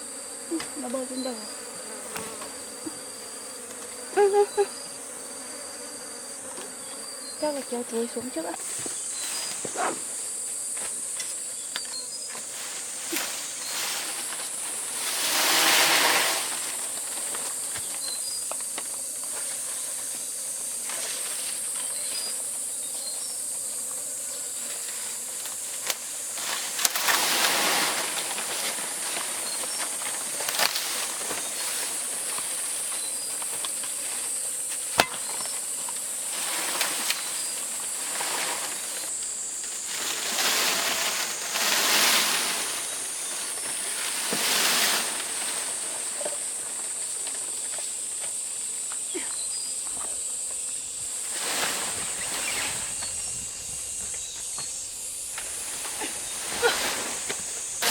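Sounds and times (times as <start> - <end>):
high-pitched insect drone: 0.0 - 57.9
rustling vegetation: 6.7 - 57.9.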